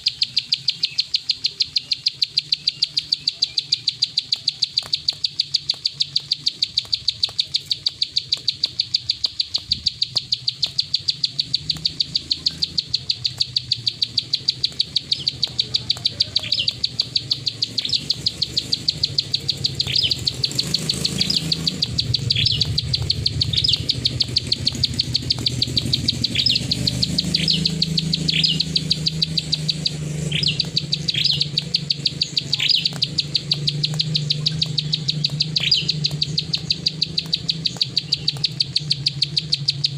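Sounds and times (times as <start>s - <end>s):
bird clicking call: 0.0s - 39.9s
bird falling chirps: 0.0s - 39.9s.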